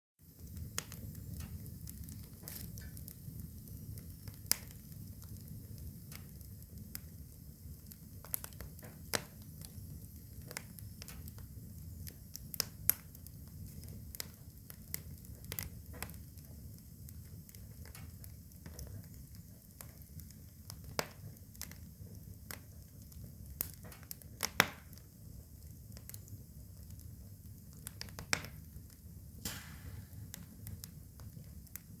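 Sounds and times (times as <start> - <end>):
fire crackling and popping: 0.2 - 32.0.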